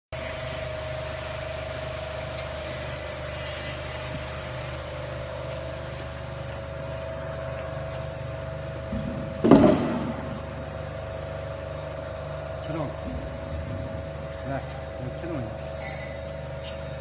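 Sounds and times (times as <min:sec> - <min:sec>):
machine motor hum with whine: 0:00.2 - 0:17.0.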